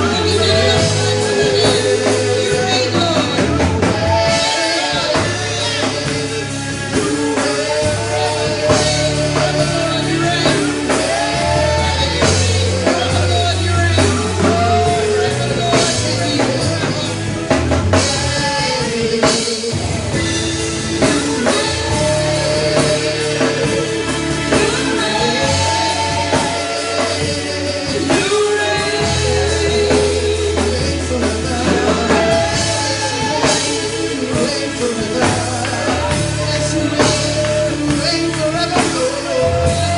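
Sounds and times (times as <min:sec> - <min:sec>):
bass: 0:00.0 - 0:39.9
drum kit: 0:00.0 - 0:39.9
guitar: 0:00.0 - 0:39.9
person singing: 0:00.0 - 0:39.9.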